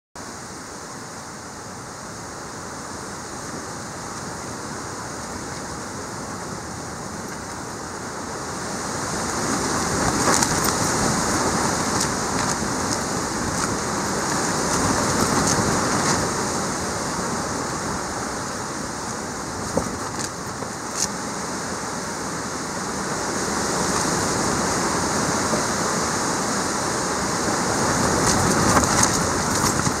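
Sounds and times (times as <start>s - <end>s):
rain: 0.2s - 30.0s
storm wind: 1.9s - 30.0s.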